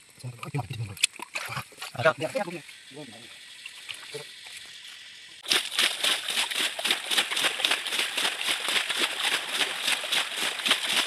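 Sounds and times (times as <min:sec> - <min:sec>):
water splashing: 0:00.5 - 0:11.0.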